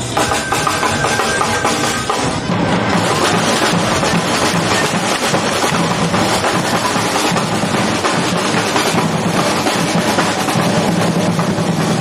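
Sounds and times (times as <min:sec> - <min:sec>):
bass drums: 0:00.0 - 0:12.0
snare drums: 0:00.0 - 0:12.0.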